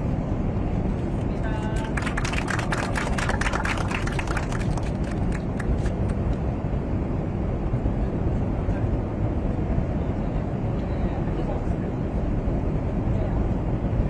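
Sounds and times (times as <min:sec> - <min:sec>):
jet cabin rumble and hiss: 0:00.0 - 0:14.0.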